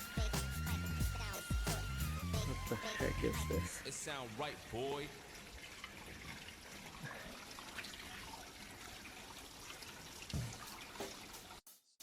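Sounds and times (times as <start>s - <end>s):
hose water running and trickling: 0.0s - 11.6s.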